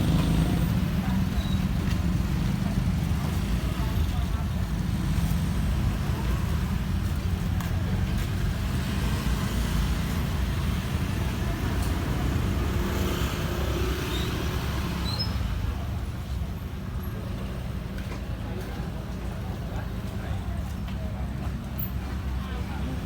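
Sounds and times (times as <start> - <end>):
passing vehicles rumble: 0.0 - 23.0.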